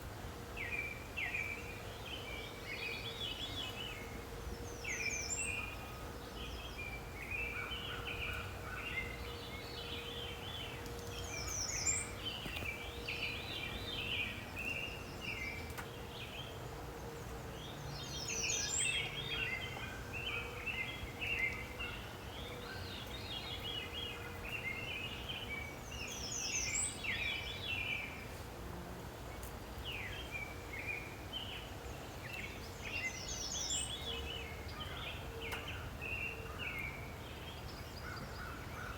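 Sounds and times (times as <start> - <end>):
songbirds singing: 0.6 - 28.4, 29.2 - 38.9.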